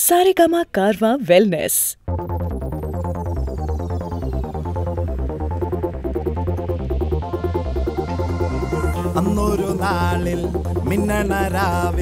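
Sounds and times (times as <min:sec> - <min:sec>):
instrumental electronic music: 0:02.0 - 0:12.0.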